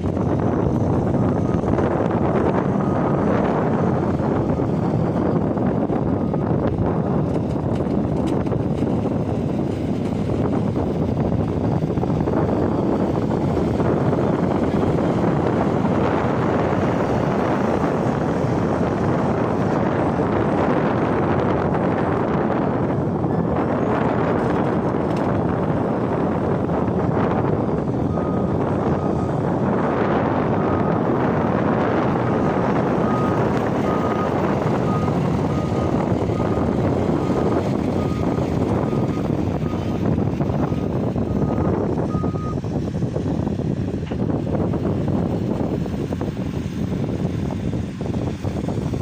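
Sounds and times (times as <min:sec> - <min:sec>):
diesel engine running: 0:00.0 - 0:49.0
wind noise on microphone: 0:00.0 - 0:49.0.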